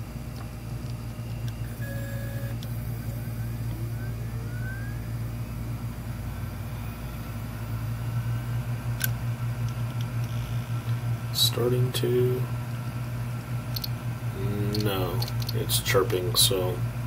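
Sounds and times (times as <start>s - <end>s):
faint rising whines: 0.0s - 17.0s
hard drive humming: 0.0s - 17.0s.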